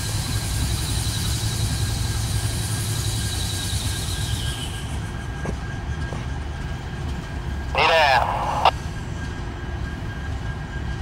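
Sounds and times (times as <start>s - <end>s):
diesel locomotive engines rumbling: 0.0s - 11.0s.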